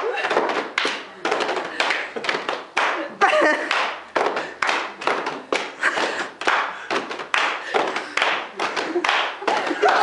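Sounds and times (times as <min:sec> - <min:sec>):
hands clapping in rhythm: 0:00.0 - 0:10.0.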